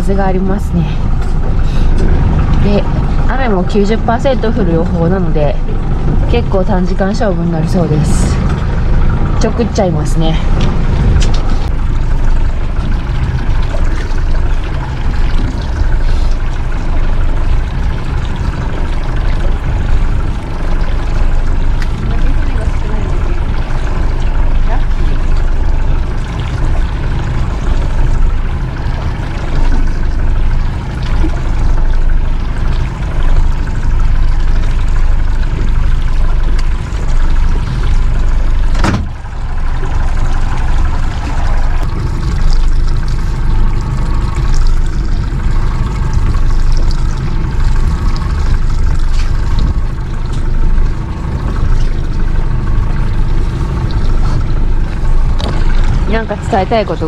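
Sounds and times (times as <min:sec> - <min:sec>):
boat engine drone: 0:00.0 - 0:57.0
water rushing past hull: 0:00.0 - 0:57.0.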